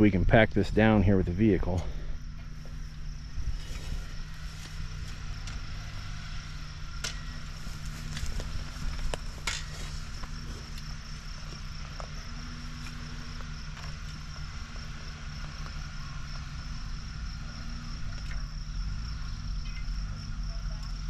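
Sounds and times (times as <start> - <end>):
off-road vehicle engine running: 0.0 - 21.0
high insect buzz: 1.4 - 21.0.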